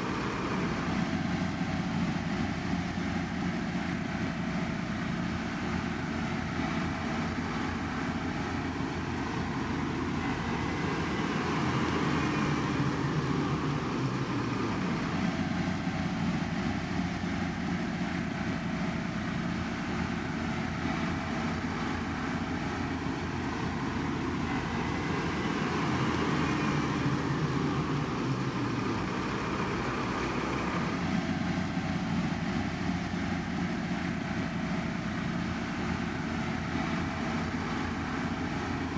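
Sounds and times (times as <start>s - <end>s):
heavy construction machinery engines: 0.0s - 38.9s.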